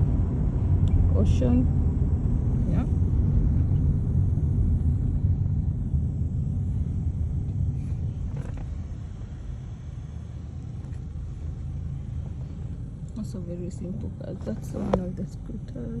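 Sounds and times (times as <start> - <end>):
vehicle driving rumble: 0.0 - 16.0.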